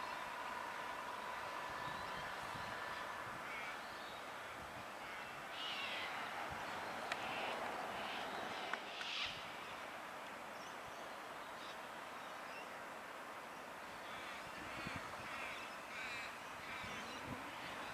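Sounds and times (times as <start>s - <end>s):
outdoor background noise: 0.0s - 17.9s.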